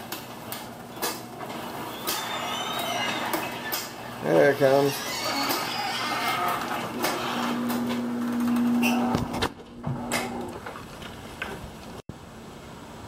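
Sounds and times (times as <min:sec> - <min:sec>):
garage door opener humming: 0:00.0 - 0:12.0.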